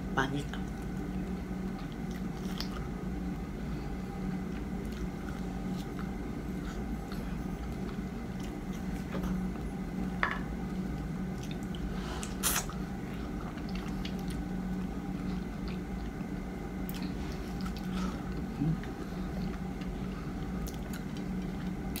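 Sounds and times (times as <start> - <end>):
steady low hum: 0.0 - 22.0
person chewing wetly: 0.7 - 22.0.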